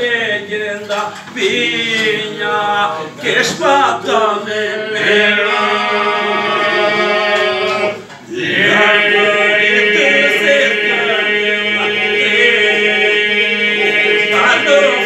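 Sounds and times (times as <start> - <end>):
men singing a cappella: 0.0 - 15.0
vocal drone: 1.4 - 15.0.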